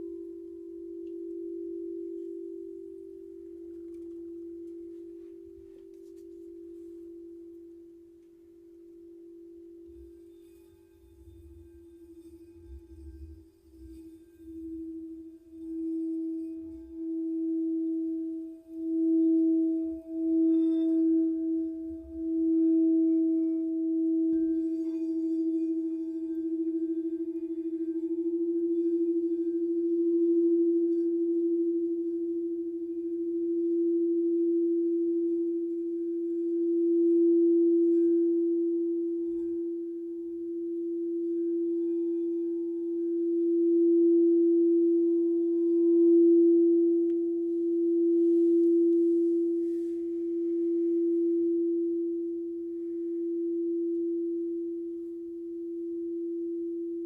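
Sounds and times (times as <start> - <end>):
singing bowl ringing: 0.0 - 57.0.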